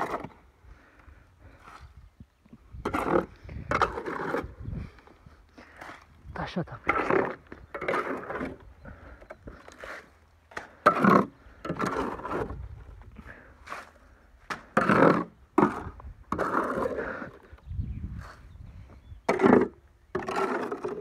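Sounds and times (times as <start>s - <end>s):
hand tools scraping soil and stone: 0.0s - 0.5s, 1.4s - 2.0s, 2.7s - 4.8s, 5.6s - 18.5s, 19.3s - 21.0s.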